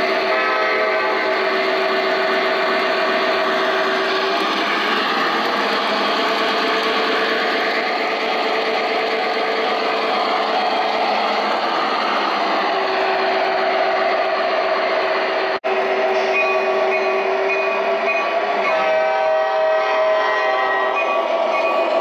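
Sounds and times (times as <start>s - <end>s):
model train diesel engine sound: 0.0s - 22.0s.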